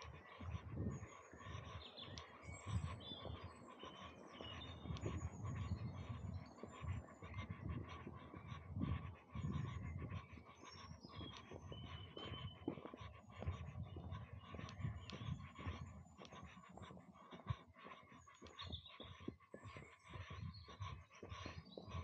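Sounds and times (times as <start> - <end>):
birds chirping: 0.0 - 22.0
wind rumble on microphone: 0.0 - 22.0.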